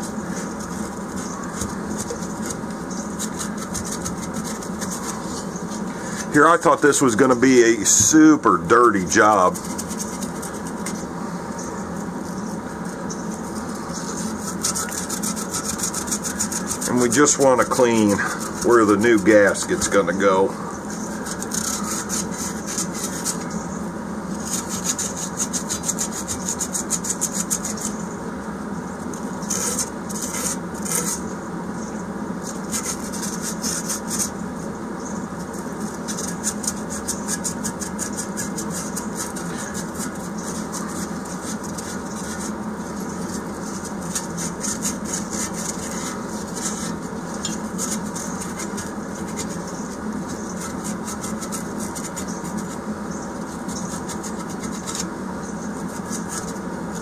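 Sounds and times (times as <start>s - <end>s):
emery cloth rubbing on metal: 0.0s - 11.1s, 12.5s - 23.6s, 29.4s - 31.3s, 35.4s - 57.0s
steady background hum: 0.0s - 57.0s.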